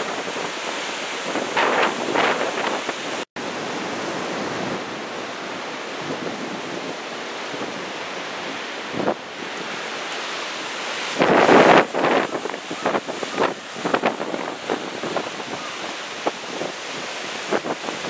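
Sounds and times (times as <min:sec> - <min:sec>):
wind buffeting microphone: 0:00.0 - 0:05.0, 0:05.9 - 0:18.0
heavy surf breaking: 0:00.0 - 0:18.0.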